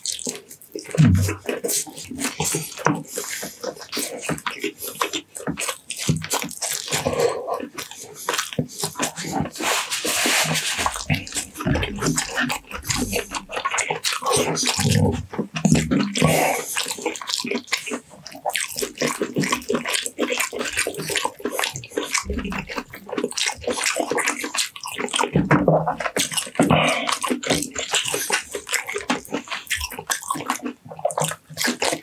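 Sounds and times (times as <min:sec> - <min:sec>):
wet chewing and lip-smacking: 0:00.0 - 0:32.0.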